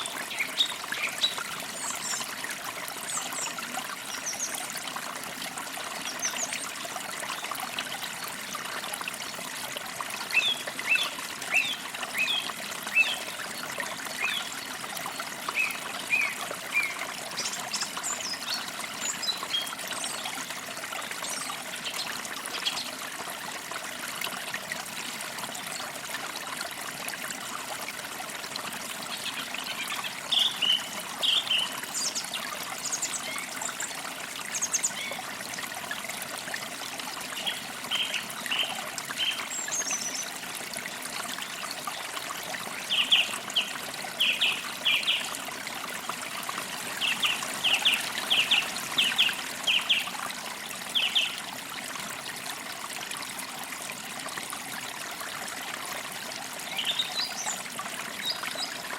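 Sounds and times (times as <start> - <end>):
creek water trickling: 0.0 - 58.9.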